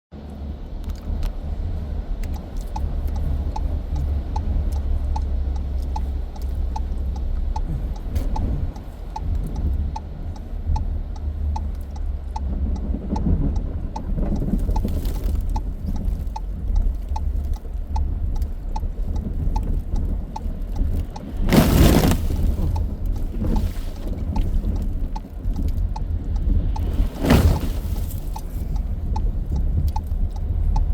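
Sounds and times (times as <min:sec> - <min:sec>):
car road and engine rumble: 0:00.1 - 0:30.9
faint regular ticking: 0:00.2 - 0:30.9.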